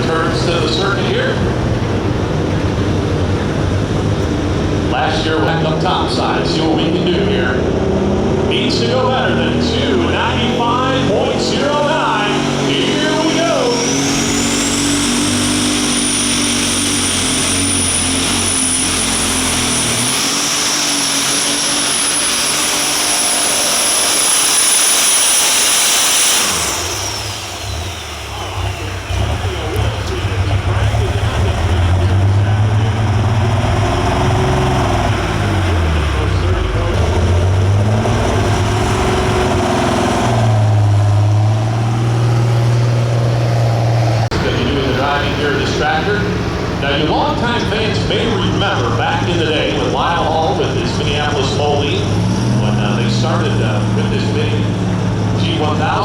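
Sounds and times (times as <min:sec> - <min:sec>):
shrill turbo whine: 0:00.0 - 0:56.0
tractor engine roar: 0:00.0 - 0:56.0.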